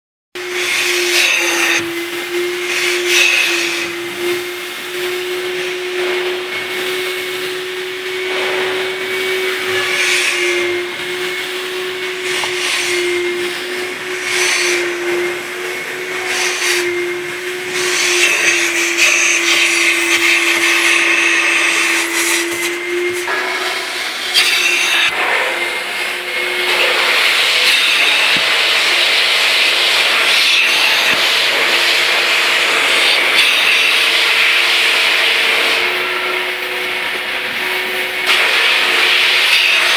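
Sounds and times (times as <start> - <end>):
vacuum cleaner running: 0.4 - 39.9.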